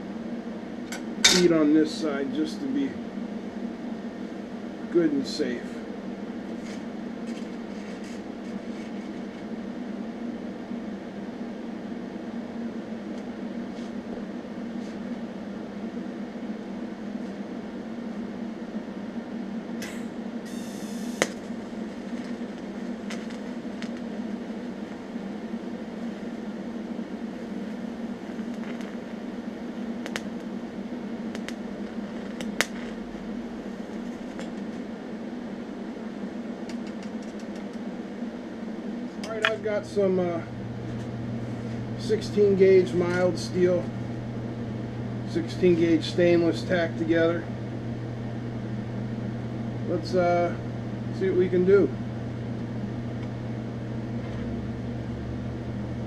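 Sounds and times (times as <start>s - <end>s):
welder electric hum: 0.0s - 56.0s.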